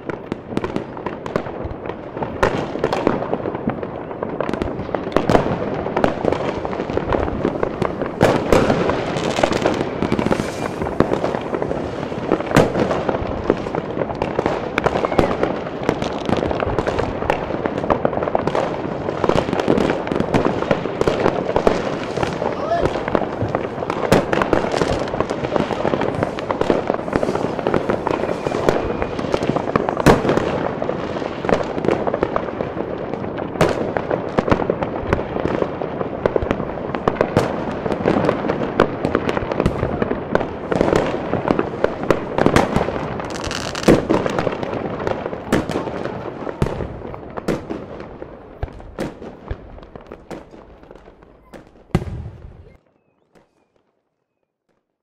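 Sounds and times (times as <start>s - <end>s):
firework bangs: 0.0s - 53.6s
fireworks crackling: 0.0s - 53.8s.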